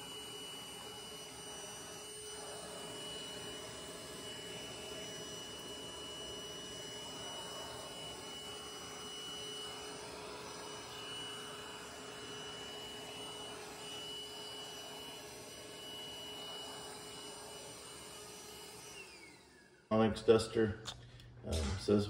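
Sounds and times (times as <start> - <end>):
vacuum cleaner running: 0.0 - 20.7.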